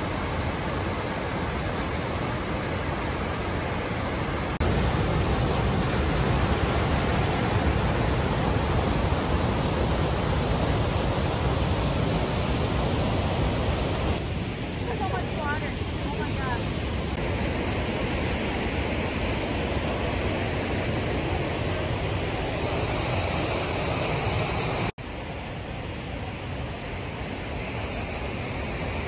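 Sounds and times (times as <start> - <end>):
white water rushing: 0.0 - 29.0.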